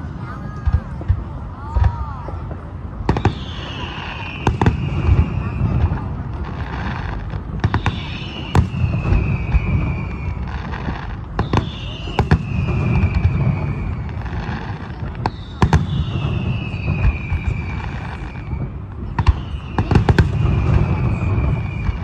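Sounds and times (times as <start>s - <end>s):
fireworks bangs and crackles: 0.0s - 22.0s
fireworks whistles falling in pitch: 3.1s - 7.0s, 7.6s - 22.0s.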